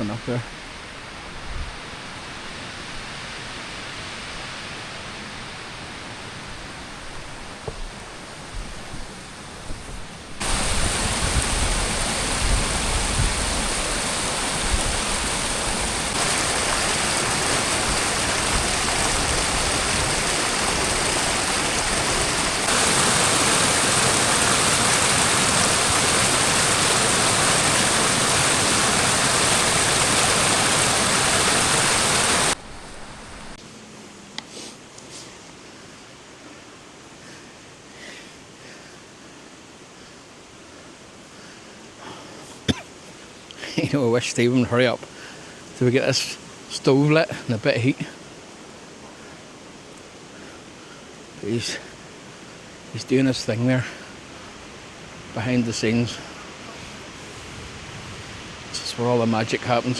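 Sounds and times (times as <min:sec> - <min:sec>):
storm wind roaring through trees: 0:00.0 - 0:59.9.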